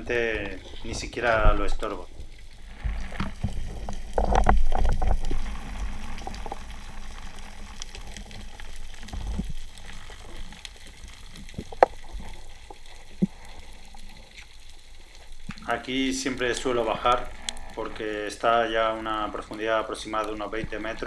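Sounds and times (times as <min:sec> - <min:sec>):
muffled underwater rushing water: 0:00.0 - 0:21.0.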